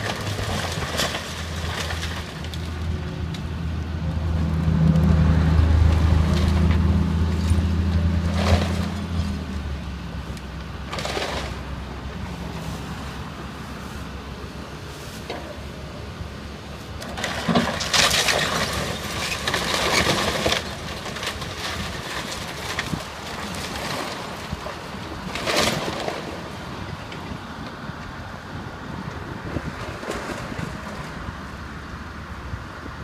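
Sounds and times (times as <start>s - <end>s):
lumber and metal crunching: 0.0s - 13.8s, 14.9s - 28.2s, 28.8s - 31.4s.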